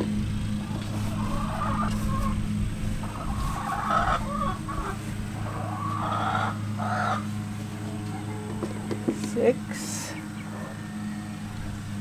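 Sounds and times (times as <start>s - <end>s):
chickens clucking: 0.0s - 10.9s
steady low hum: 0.0s - 12.0s.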